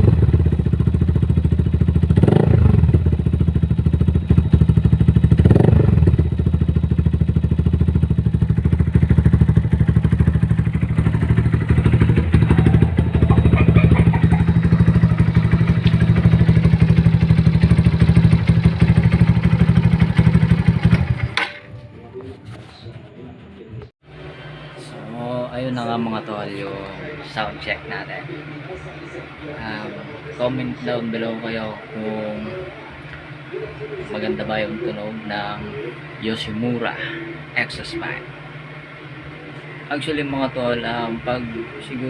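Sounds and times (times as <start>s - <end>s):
motorcycle engine idling and revving: 0.0s - 21.6s, 24.1s - 42.0s.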